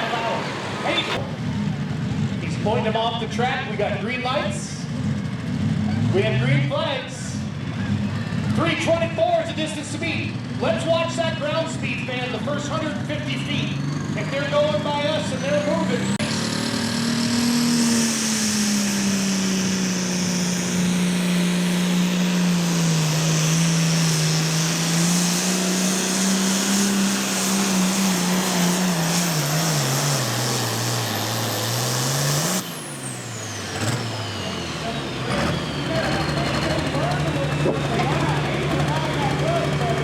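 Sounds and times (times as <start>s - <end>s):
tractor diesel engine running flat out: 0.0s - 40.0s.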